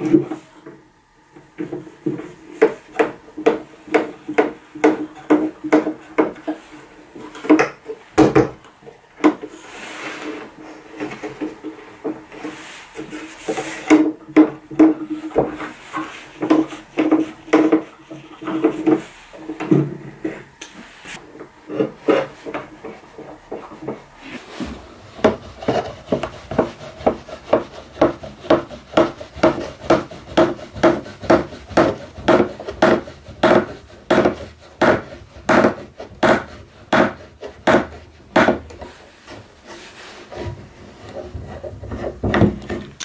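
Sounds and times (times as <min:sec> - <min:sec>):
wooden knocks and rubbing: 0:01.4 - 0:43.0.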